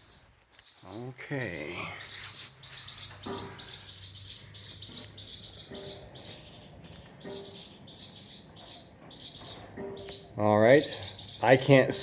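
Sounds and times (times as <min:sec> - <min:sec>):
swallows chirping: 0:00.0 - 0:12.0.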